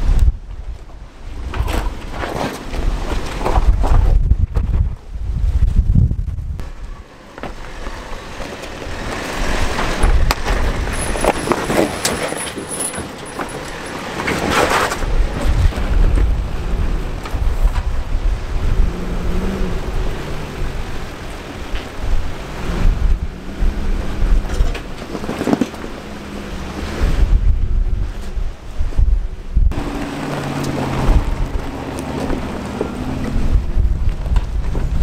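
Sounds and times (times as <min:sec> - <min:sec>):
wind buffeting microphone: 0:00.0 - 0:35.0
vehicle engine running: 0:06.4 - 0:35.0.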